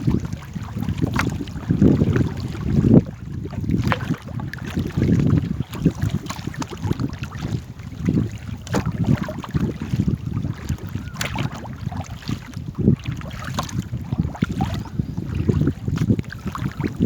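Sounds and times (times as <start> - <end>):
water splashing and sloshing: 0.0 - 17.0
wind rumbling on microphone: 0.0 - 17.0.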